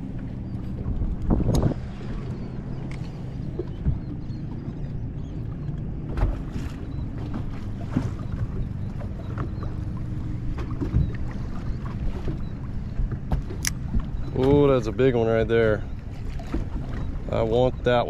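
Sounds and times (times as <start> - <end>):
water slapping against boat hull: 0.0 - 18.0
wind buffeting microphone: 0.0 - 18.0.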